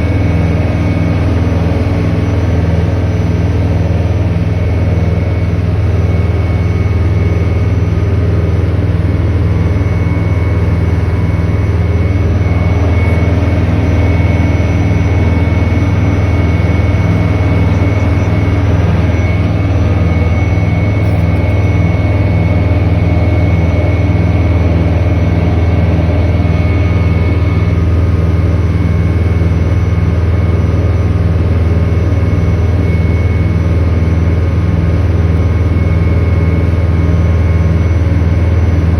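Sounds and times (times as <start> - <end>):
boat motor droning: 0.0 - 38.9.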